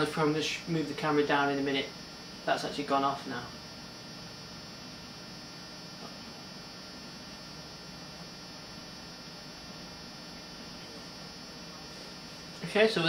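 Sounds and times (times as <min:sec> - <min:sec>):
electrical mains hum: 0:00.0 - 0:13.0
faint buzz: 0:00.0 - 0:13.0.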